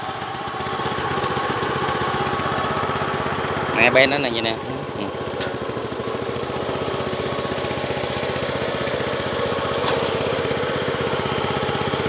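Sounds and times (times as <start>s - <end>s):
small petrol engine idling: 0.0s - 12.0s.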